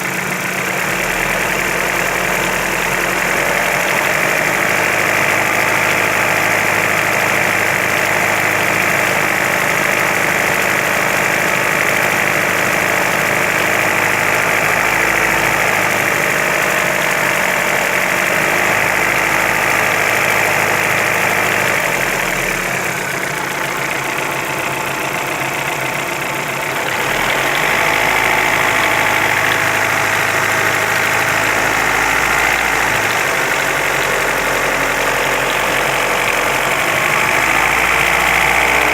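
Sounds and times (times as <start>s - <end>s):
engine running with knock: 0.0s - 38.9s.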